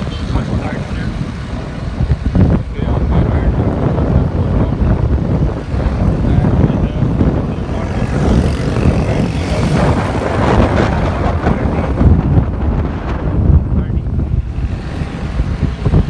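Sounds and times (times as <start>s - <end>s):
road and traffic noise: 0.0s - 16.0s
wind noise on microphone: 0.0s - 16.0s.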